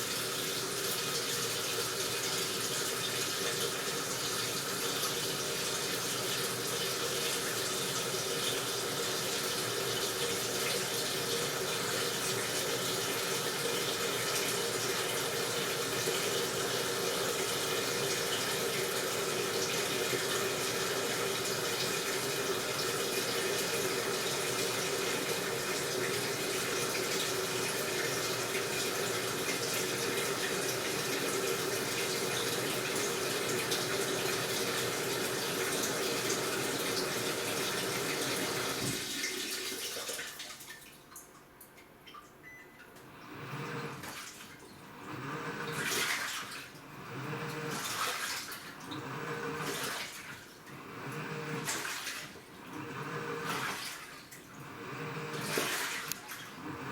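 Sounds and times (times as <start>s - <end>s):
washing machine filling with water: 0.0s - 56.9s.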